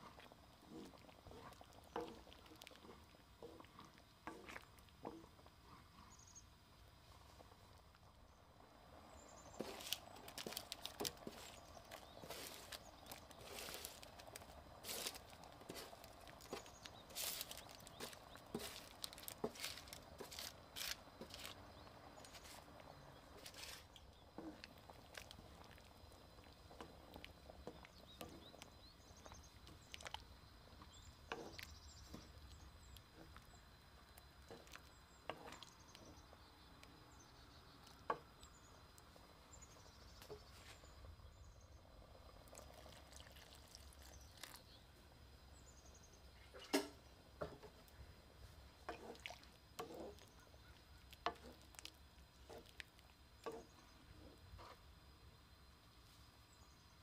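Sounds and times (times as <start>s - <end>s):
sauce simmering with small pops: 0.0s - 6.0s, 8.9s - 40.5s, 42.0s - 45.5s, 46.3s - 55.5s.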